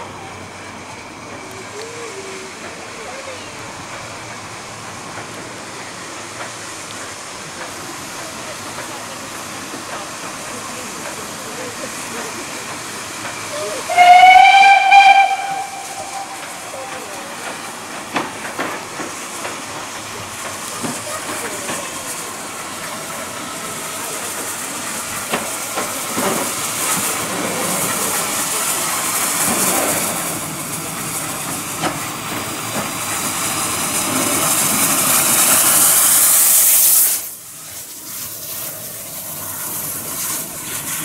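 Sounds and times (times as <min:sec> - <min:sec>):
steam locomotive hissing: 0:00.0 - 0:41.0.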